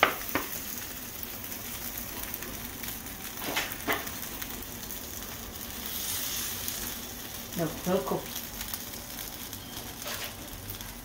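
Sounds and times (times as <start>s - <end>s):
kebabs sizzling on grill: 0.0s - 11.0s.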